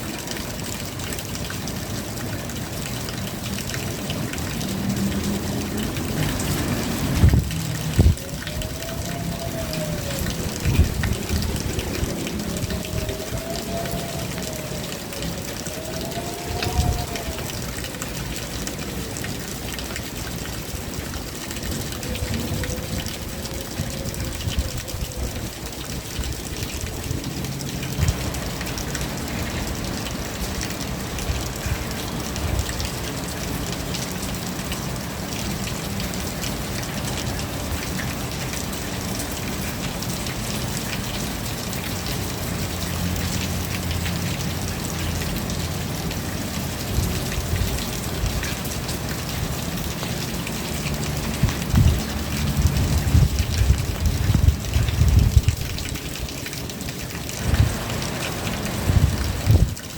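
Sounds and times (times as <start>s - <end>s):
rain falling: 0.0s - 59.9s
raindrops hitting surfaces: 0.0s - 59.9s.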